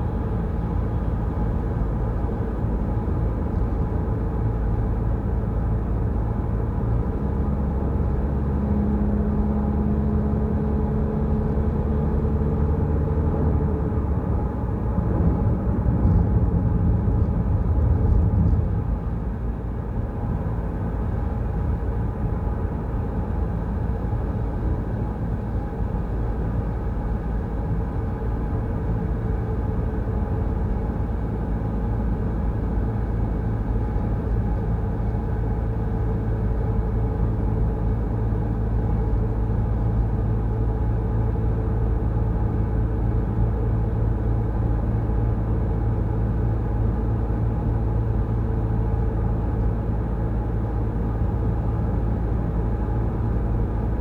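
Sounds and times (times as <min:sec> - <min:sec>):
car engine and tyres on road: 0:00.0 - 0:54.0.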